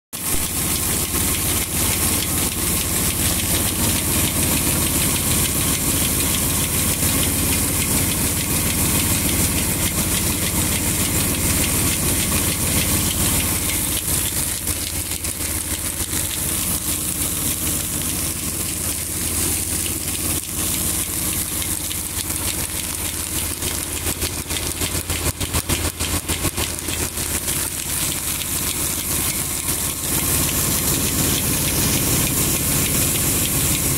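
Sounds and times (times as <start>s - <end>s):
stone grain mill grinding: 0.2s - 33.9s.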